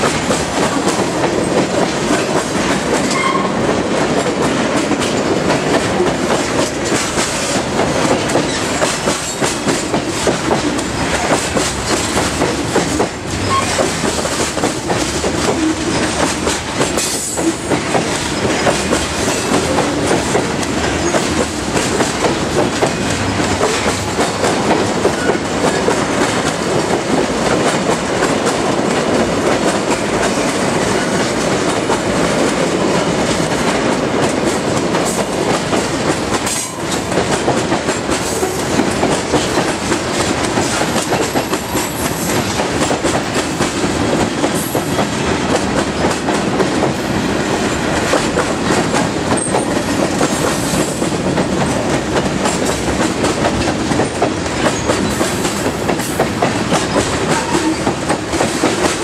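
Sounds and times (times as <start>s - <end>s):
freight train wheels on rail: 0.0s - 59.0s
wheels clicking over rail joints: 0.0s - 59.0s.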